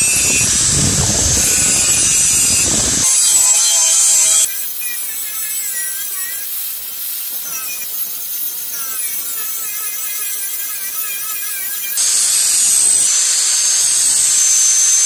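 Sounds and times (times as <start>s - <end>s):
angle grinder motor whine: 0.0s - 15.0s
grinding disc hissing on steel: 0.0s - 15.0s.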